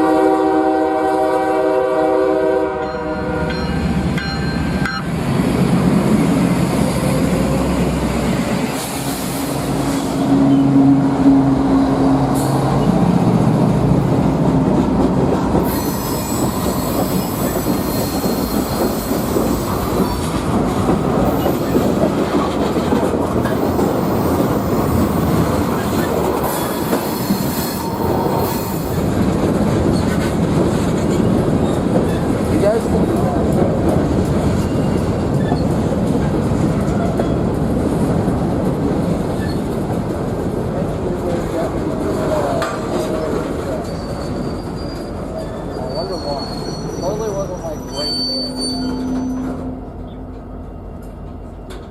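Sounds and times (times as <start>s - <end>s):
low train engine tone: 0.0s - 51.9s
train wheels on rails: 0.0s - 51.9s.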